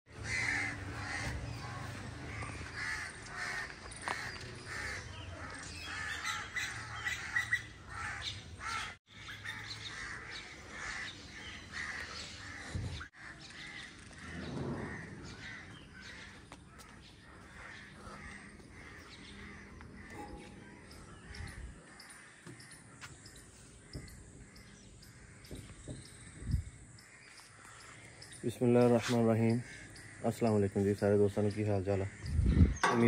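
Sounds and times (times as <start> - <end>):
bird calls: 0.1 - 33.0
crows cawing: 0.1 - 33.0.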